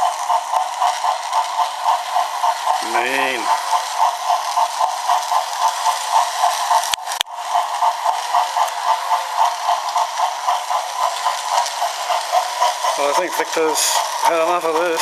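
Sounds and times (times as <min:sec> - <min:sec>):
toy mechanism whirring clatter: 0:00.0 - 0:15.0.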